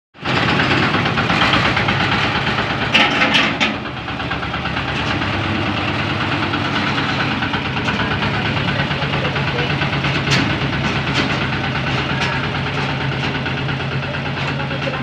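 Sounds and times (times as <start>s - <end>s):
engine running with pulsing beat: 0.2s - 15.0s.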